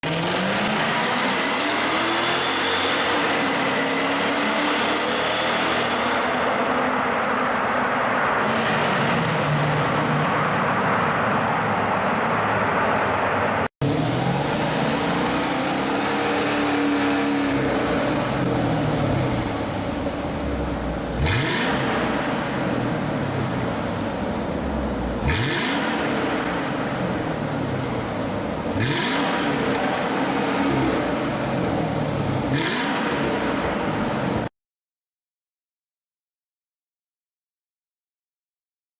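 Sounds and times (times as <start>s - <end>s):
car engine revving: 0.0s - 34.5s.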